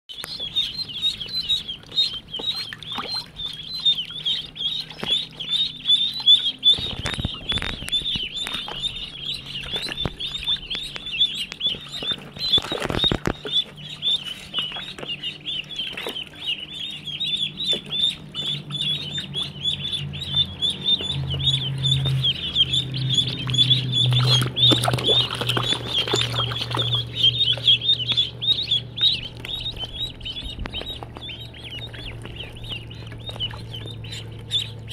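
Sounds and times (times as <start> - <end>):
ducklings peeping: 0.1 - 34.9.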